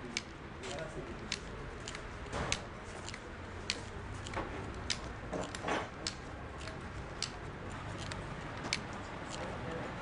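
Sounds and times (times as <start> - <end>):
sharp clicks: 0.0 - 9.5.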